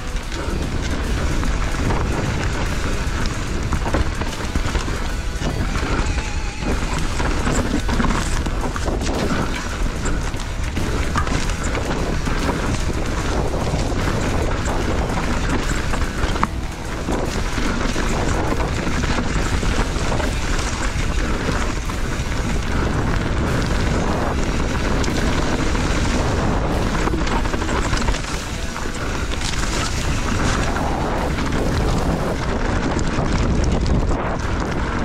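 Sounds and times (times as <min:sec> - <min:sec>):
bike rattling: 0:00.0 - 0:35.0
wind buffeting microphone: 0:00.0 - 0:35.0.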